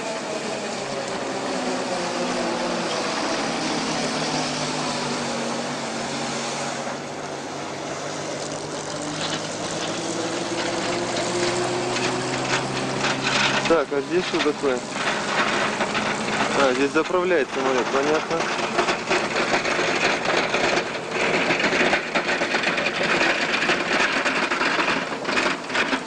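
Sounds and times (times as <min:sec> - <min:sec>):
propeller aircraft engine drone: 0:00.0 - 0:26.0.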